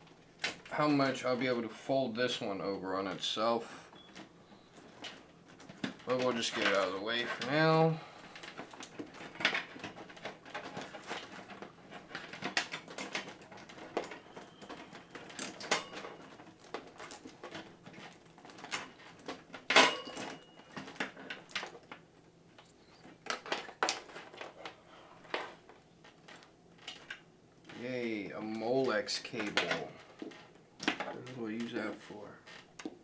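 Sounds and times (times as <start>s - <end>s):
cables clicking and rustling: 0.0s - 33.0s.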